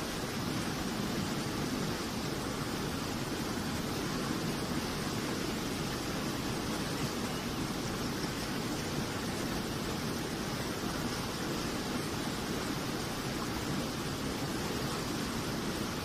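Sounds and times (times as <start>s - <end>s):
water rushing down a channel: 0.0s - 16.0s.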